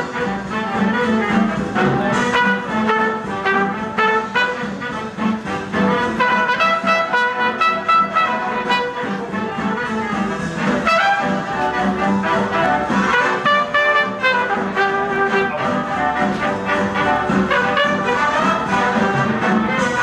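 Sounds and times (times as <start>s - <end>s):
dance band brass music: 0.0s - 20.0s.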